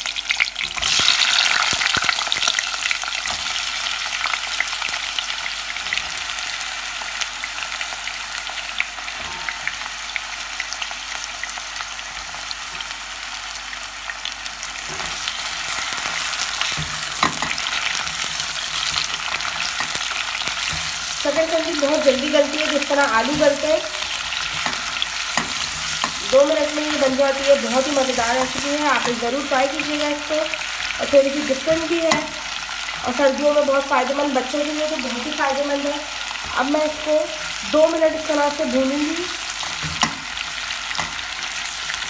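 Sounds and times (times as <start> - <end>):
slices sizzling in hot fat: 0.0 - 42.0.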